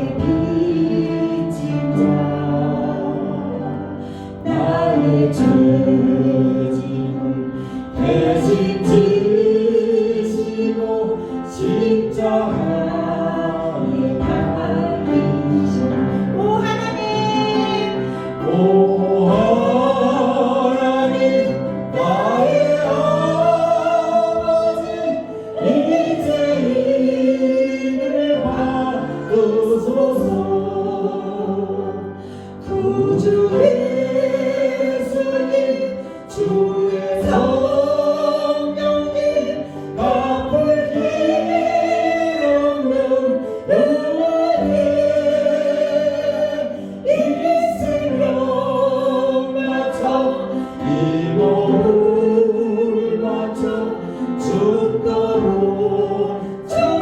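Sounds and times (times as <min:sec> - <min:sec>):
congregation singing: 0:00.0 - 0:57.0
instrumental accompaniment: 0:00.0 - 0:57.0.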